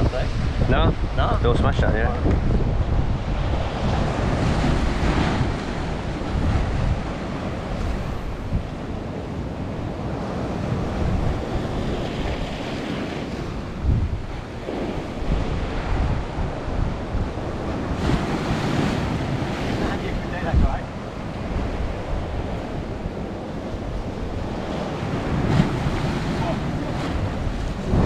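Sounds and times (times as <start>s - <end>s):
waves breaking over rocks: 0.0s - 28.0s
wind buffeting microphone: 0.0s - 28.0s.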